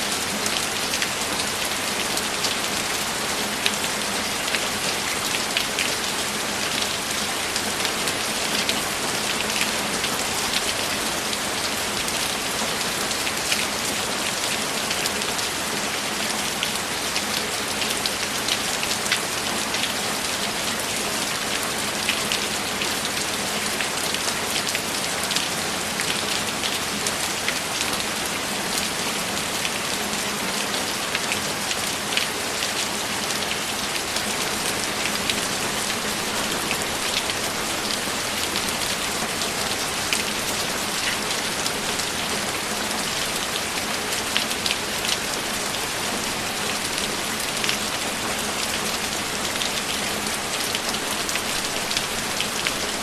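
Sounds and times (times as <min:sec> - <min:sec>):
rain pattering on a surface: 0:00.0 - 0:53.0.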